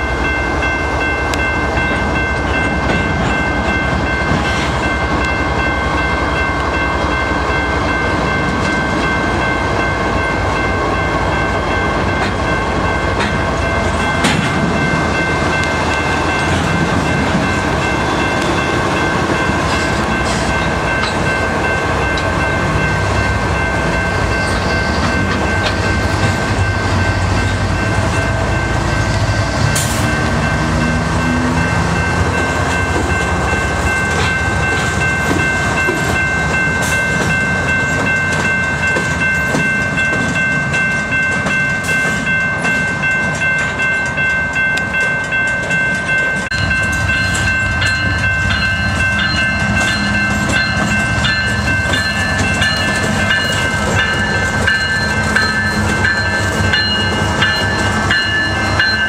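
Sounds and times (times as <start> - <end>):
diesel locomotive engines: 0.0 - 59.0
train cars clickety-clack: 0.0 - 59.0.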